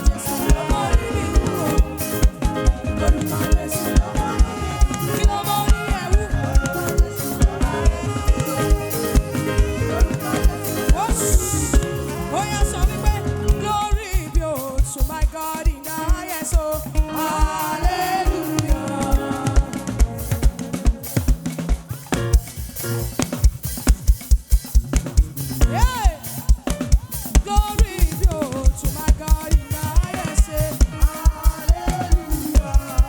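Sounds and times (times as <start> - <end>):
gospel worship band playing: 0.0 - 33.0.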